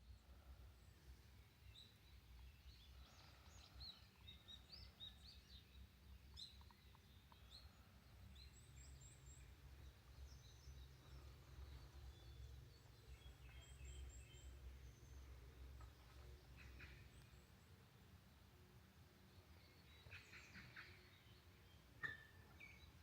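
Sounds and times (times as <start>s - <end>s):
low steady rumble: 0.0s - 20.4s
faint birdsong chirps and whistles: 0.0s - 23.0s.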